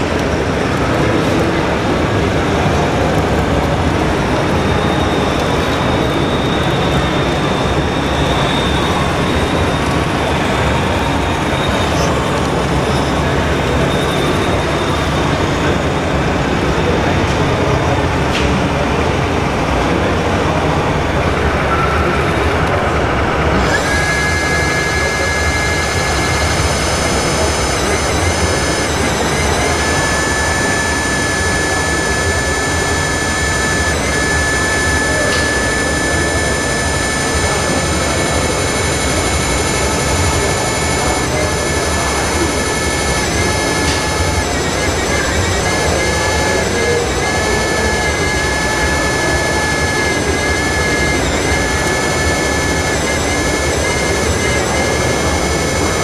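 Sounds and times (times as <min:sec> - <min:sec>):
hydraulic pump high whine: 0:00.0 - 0:56.0
steady broad noise: 0:00.0 - 0:56.0.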